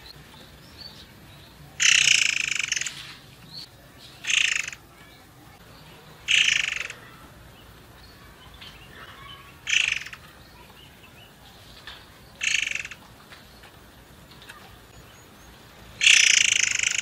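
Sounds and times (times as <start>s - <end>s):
faint bird chirps: 0.0s - 13.8s, 14.4s - 17.0s
songbird buzzy calls: 0.0s - 17.0s.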